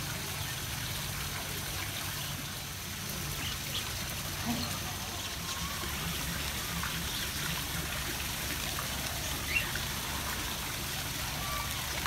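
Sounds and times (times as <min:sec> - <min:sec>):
trickle of running water: 0:00.0 - 0:12.0.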